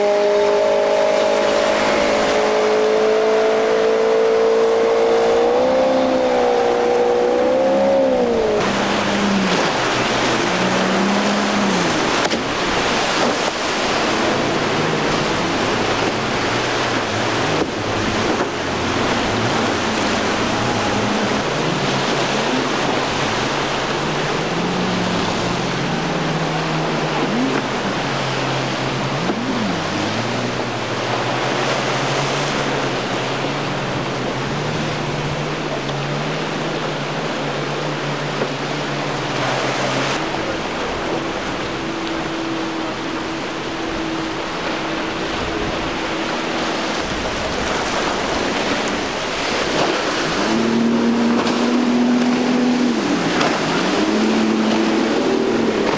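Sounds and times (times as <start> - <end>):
outboard boat engine: 0.0 - 55.9
surf: 0.0 - 55.9.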